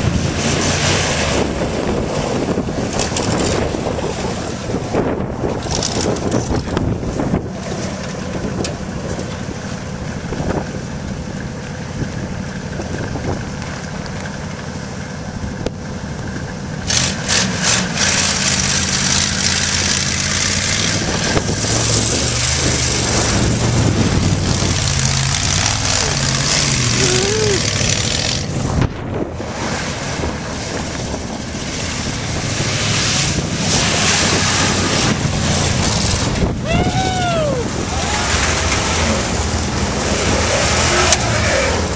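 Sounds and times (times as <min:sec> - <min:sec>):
wind noise on microphone: 0:00.0 - 0:14.4, 0:15.3 - 0:41.9
vehicle engine running: 0:00.0 - 0:41.9.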